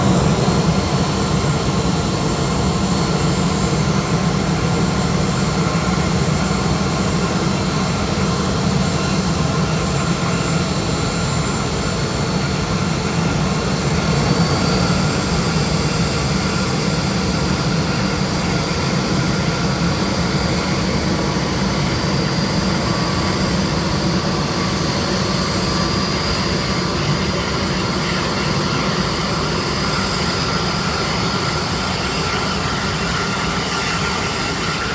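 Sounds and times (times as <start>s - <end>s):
faint high engine whine: 0.0s - 34.9s
jet engines rumbling: 0.0s - 34.9s.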